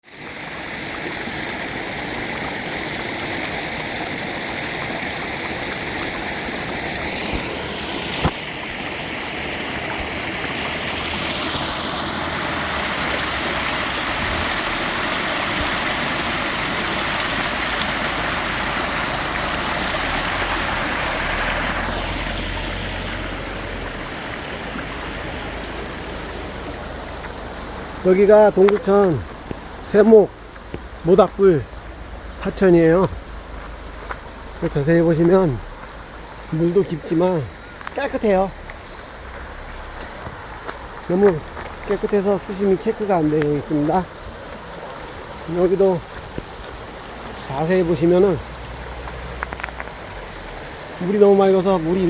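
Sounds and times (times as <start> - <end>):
stream water over rocks: 0.0 - 52.0.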